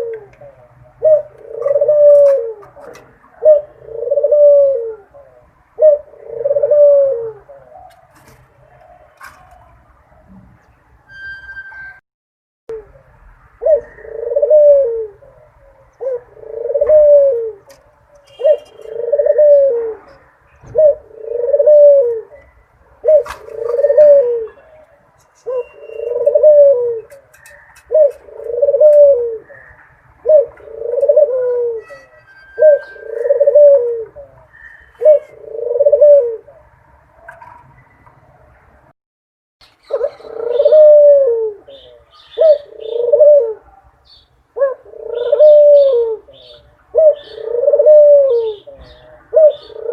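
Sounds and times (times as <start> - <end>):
dove cooing: 0.0 - 10.4, 12.7 - 37.7, 39.8 - 43.9, 44.5 - 49.9.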